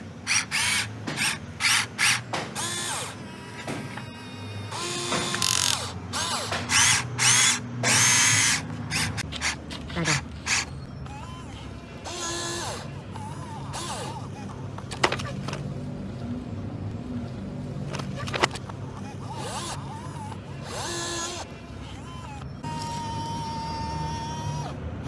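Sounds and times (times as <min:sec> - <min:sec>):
small electric motors whining: 0:00.0 - 0:14.6, 0:17.9 - 0:24.8.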